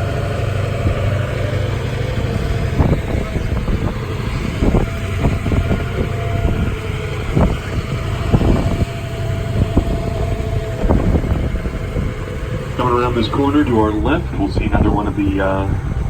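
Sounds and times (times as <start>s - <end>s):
tram driving rumble: 0.0s - 16.0s.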